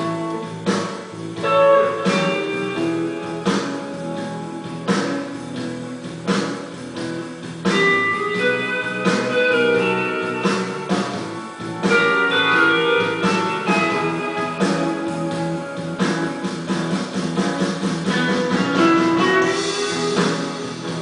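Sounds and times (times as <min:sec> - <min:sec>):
guitar music: 0:00.0 - 0:21.0.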